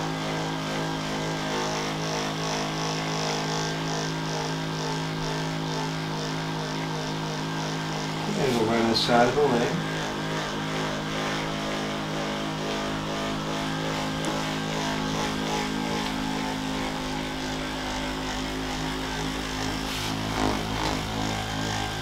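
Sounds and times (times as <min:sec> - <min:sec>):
massage gun motor humming: 0:00.0 - 0:22.0.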